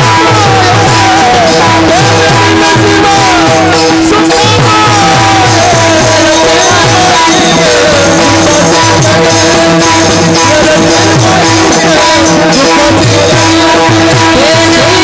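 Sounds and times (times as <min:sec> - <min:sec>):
drum beating: 0:00.0 - 0:15.0
group singing over drone: 0:00.0 - 0:15.0.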